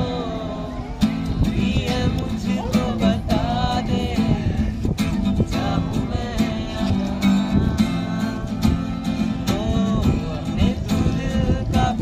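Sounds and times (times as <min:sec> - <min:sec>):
acoustic guitar strumming: 0:00.0 - 0:12.0
men singing: 0:00.0 - 0:12.0.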